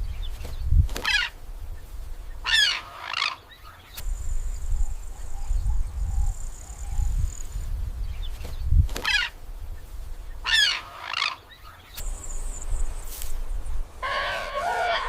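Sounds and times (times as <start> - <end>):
bird calling: 0.2 - 7.6, 8.2 - 15.0.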